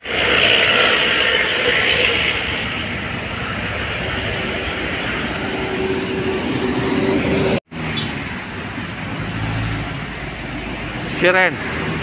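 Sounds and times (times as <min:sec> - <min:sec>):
highway traffic rushing past: 0:00.0 - 0:12.0.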